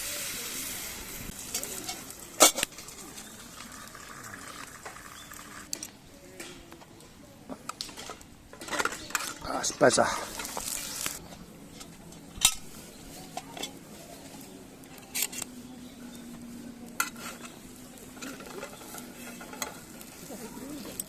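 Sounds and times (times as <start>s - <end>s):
metal utensils clinking and scraping: 1.4s - 5.9s, 7.8s - 15.6s, 16.2s - 21.0s.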